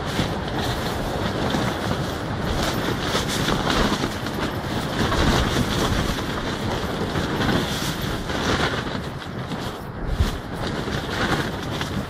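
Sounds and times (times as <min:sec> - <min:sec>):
tent fabric flapping in wind: 0:00.0 - 0:12.0.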